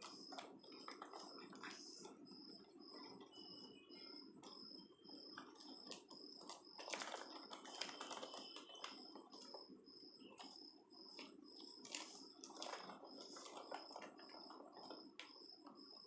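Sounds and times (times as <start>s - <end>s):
faint clicks and taps: 0.0s - 16.0s.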